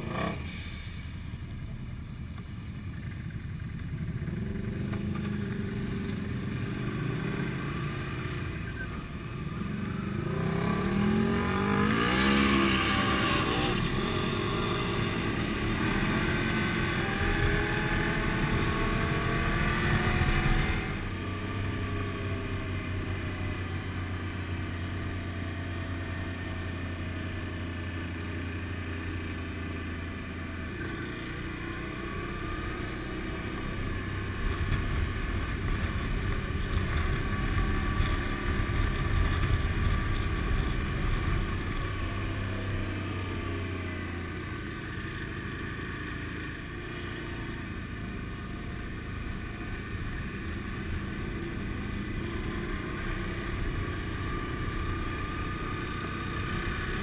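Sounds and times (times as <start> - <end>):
motorcycle engine running: 1.2 - 57.0.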